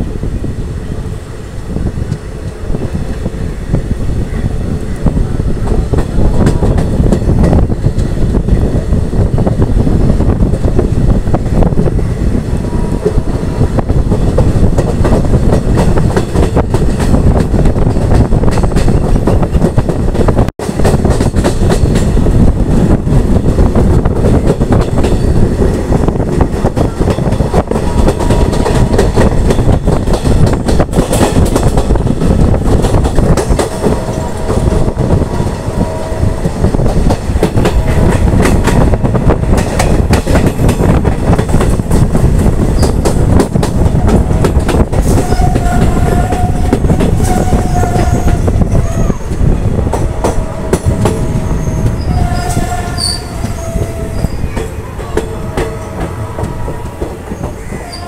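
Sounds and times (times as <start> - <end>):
rushing air: 0.0 - 57.7
train wheels rumbling on rails: 0.0 - 58.0
clickety-clack over rail joints: 4.8 - 12.0, 12.9 - 35.8, 36.4 - 58.0.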